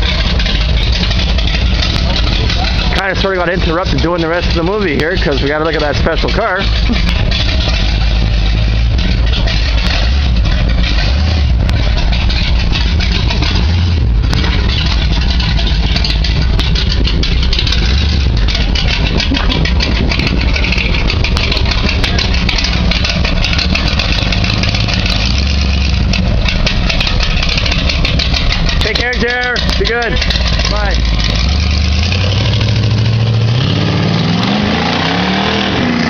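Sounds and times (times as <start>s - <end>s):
car engine idling loudly: 0.0s - 36.0s.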